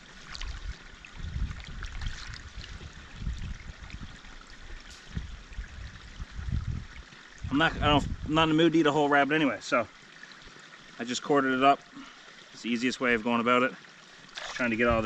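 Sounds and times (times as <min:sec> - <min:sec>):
stream trickling over rocks: 0:00.0 - 0:15.0.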